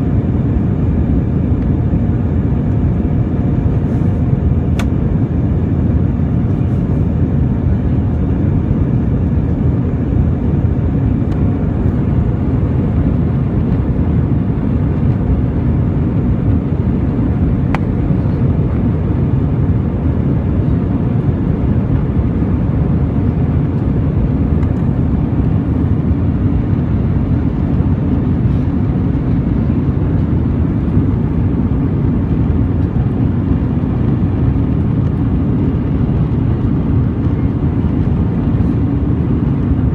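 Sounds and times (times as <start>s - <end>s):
jet engines low rumble: 0.0s - 39.9s.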